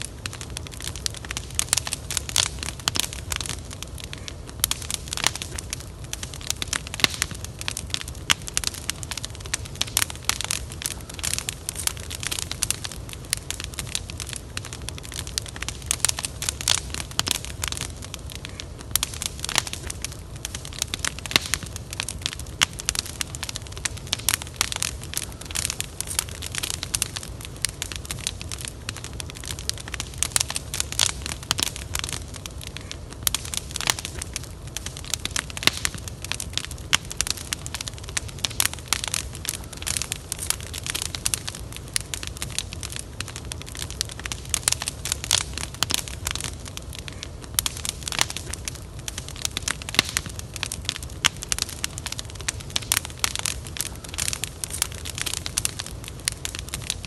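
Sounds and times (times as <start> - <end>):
fire popping: 0.0 - 57.0
wood fire crackling: 0.0 - 57.0.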